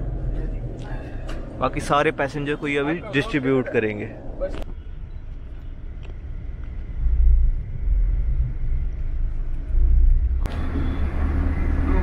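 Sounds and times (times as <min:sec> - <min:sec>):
bus interior rumble: 0:00.0 - 0:12.0.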